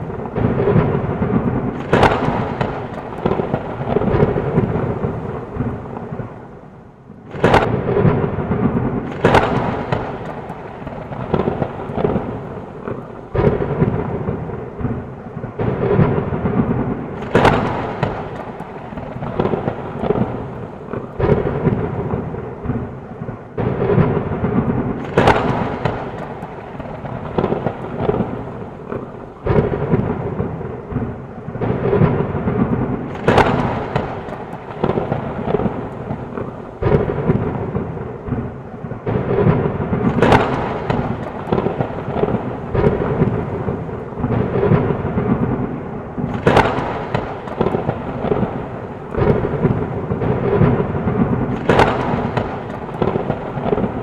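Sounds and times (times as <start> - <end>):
heavy rain: 0.0 - 54.0
rolling thunder: 0.0 - 54.0
sharp thunder cracks: 0.0 - 54.0.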